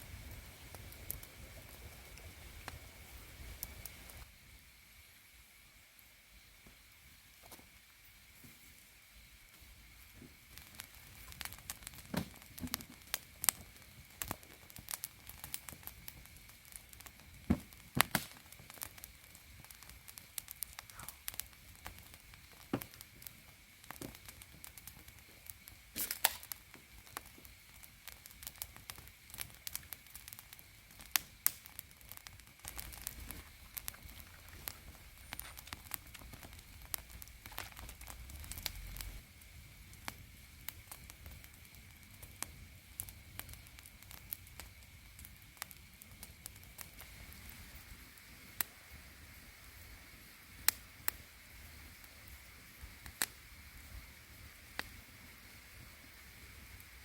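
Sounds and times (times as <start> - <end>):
campfire crackling and popping: 0.0 - 4.4, 9.5 - 57.0.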